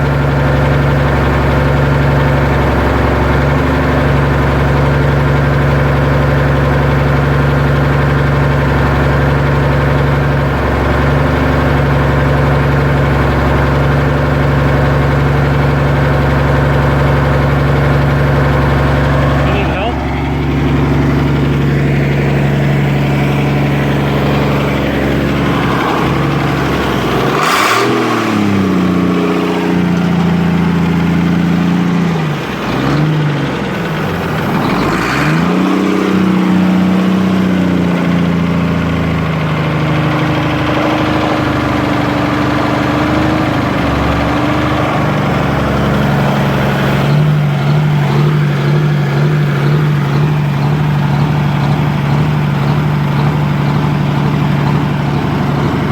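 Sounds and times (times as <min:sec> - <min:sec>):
tractor engine idling and revving: 0:00.0 - 0:55.9.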